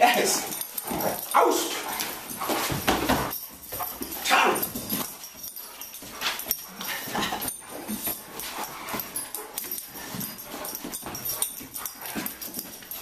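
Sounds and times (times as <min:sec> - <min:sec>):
dog play noises: 0:00.0 - 0:13.0.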